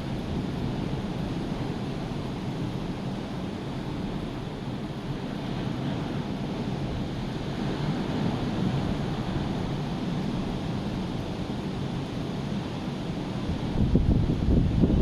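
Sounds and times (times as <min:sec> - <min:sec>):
rough sea surf washing: 0:00.0 - 0:15.0
wind noise on microphone: 0:00.0 - 0:15.0.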